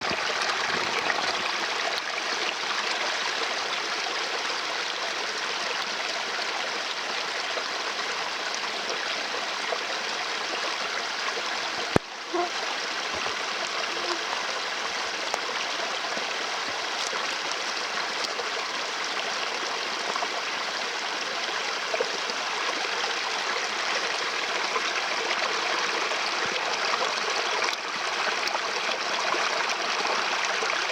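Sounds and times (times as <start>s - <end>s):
stream babbling and trickling: 0.0s - 30.9s.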